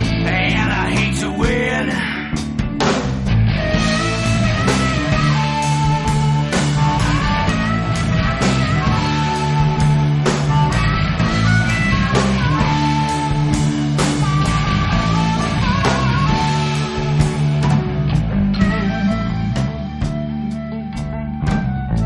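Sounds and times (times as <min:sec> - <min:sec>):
bass line: 0:00.0 - 0:22.0
guitar melody: 0:00.0 - 0:22.0.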